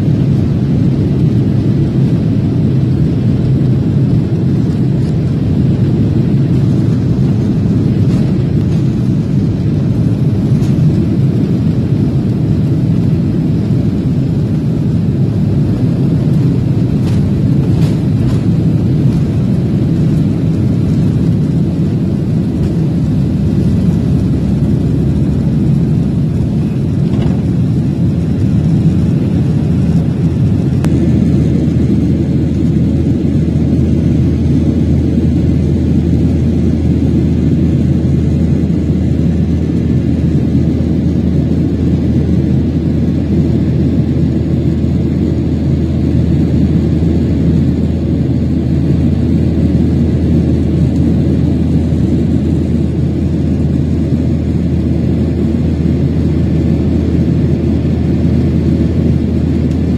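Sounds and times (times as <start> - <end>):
jet engines roaring in cabin: 0.0 - 59.9.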